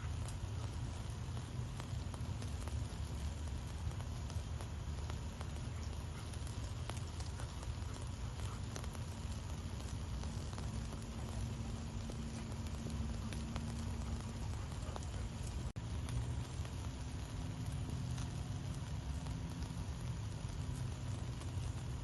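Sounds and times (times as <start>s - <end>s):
fire popping and snapping: 0.0s - 22.0s
low rumble of burning: 0.0s - 22.0s
wood fire crackling: 0.0s - 22.0s.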